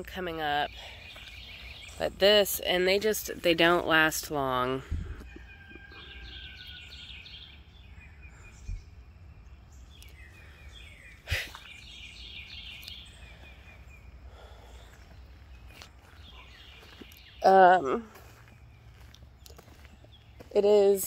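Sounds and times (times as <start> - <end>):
bird chirping: 0.1 - 21.0.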